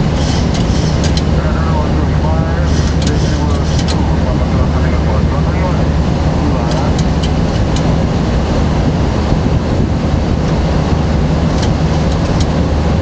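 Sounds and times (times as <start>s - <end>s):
airflow rush in cockpit: 0.0s - 13.0s
jet engine drone: 0.0s - 13.0s.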